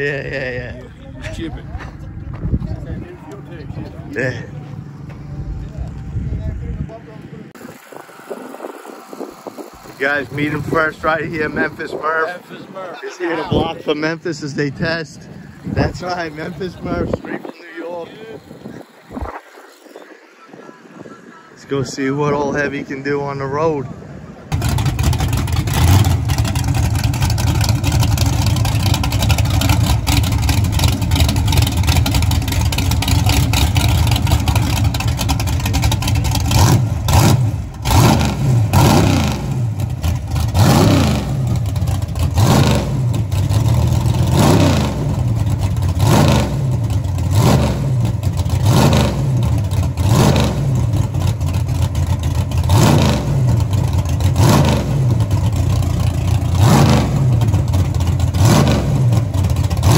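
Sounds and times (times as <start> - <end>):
car engine revving: 7.1 - 59.9.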